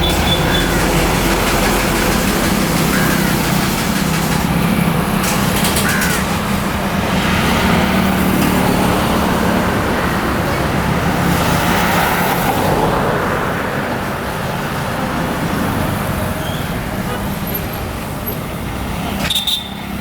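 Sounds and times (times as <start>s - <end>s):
road traffic noise: 0.0s - 20.0s
vehicle engines running: 0.0s - 20.0s.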